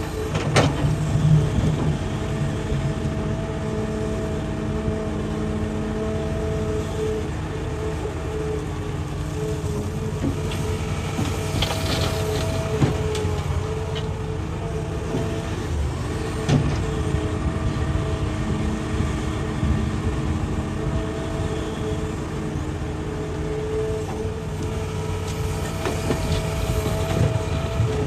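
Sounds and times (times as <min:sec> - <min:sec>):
excavator diesel engine whine: 0:00.0 - 0:28.0.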